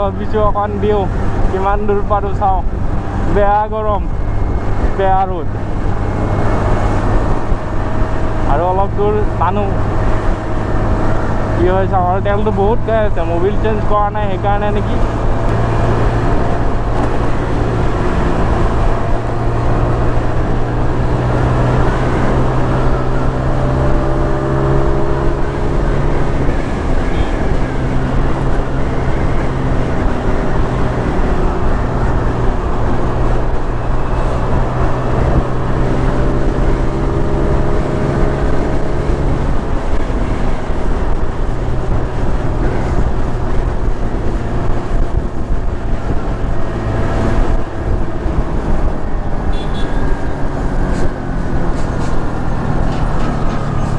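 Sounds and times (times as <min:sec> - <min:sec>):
motorcycle engine running: 0:00.0 - 0:53.9
wind on microphone: 0:00.0 - 0:53.9.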